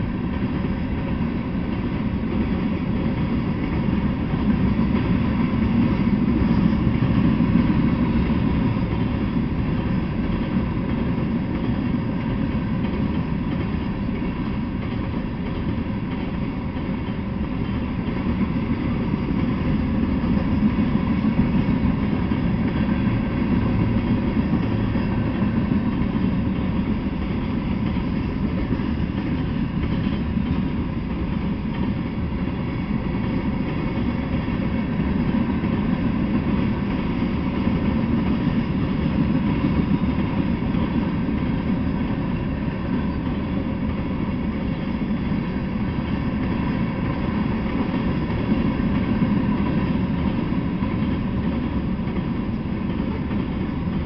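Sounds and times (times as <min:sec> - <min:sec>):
train wheels running on rails: 0:00.0 - 0:54.0.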